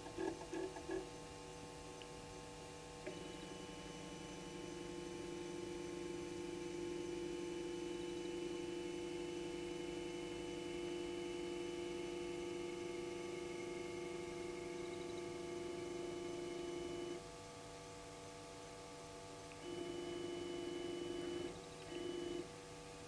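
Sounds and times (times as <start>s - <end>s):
low steady hum: 0.0s - 23.0s
faint high whine: 1.5s - 22.5s.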